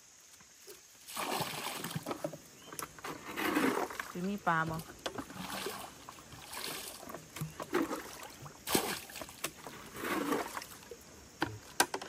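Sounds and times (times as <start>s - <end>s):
water splashing: 0.6s - 11.9s.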